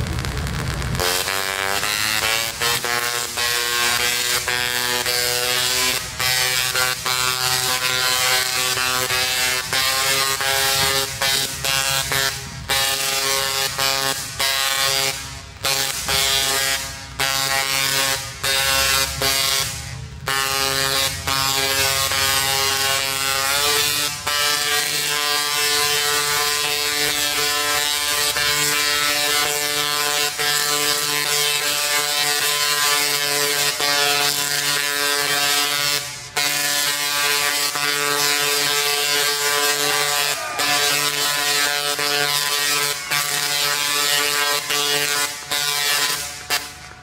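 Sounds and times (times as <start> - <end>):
tesla coil buzzing crackle: 0.0 - 47.0.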